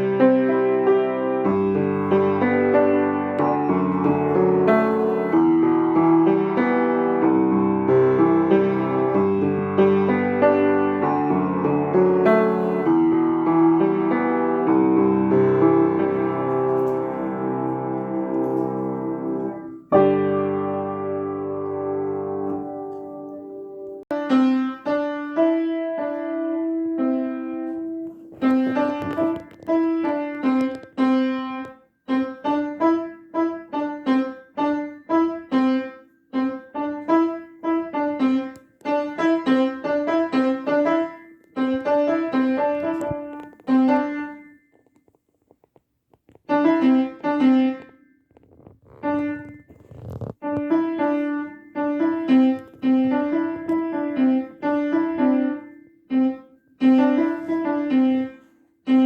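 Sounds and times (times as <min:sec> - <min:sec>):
piano melody: 0:00.0 - 0:44.7, 0:46.4 - 0:48.0, 0:49.0 - 0:49.7, 0:50.4 - 0:59.0.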